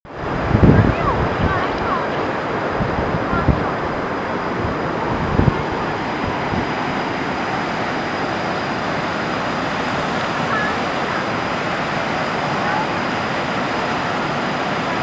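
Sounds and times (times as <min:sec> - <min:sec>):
wind bumps on microphone: 0:00.1 - 0:14.4
waterfall and river rushing: 0:00.1 - 0:15.0.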